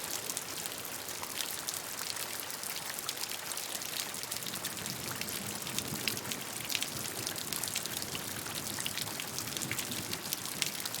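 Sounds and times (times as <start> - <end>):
steady rainfall: 0.0 - 11.0.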